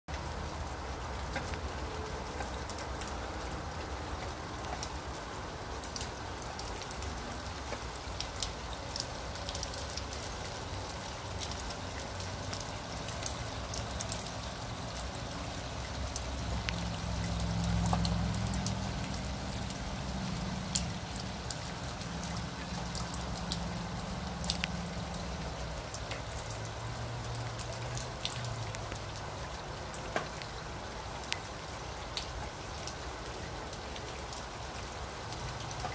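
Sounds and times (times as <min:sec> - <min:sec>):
sharp drips and clicks: 0:00.1 - 0:35.9
steady rain: 0:00.1 - 0:35.9
water trickling down a metal chain: 0:00.1 - 0:35.9.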